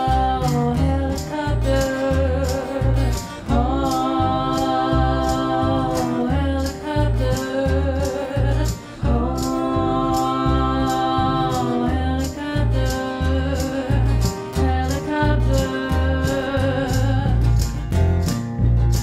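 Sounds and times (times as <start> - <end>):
woman singing: 0.0 - 17.8
acoustic guitar: 0.0 - 19.0
upright bass: 0.0 - 19.0.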